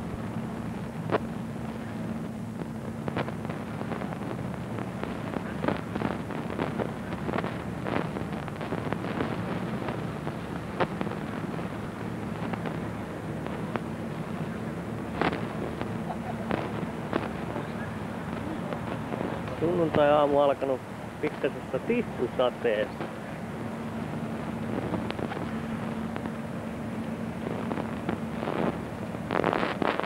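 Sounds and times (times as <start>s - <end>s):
wind on microphone: 0.0s - 22.2s, 22.8s - 30.0s
faint low hum: 0.0s - 30.0s
sharp clicks and crackles: 0.0s - 30.0s.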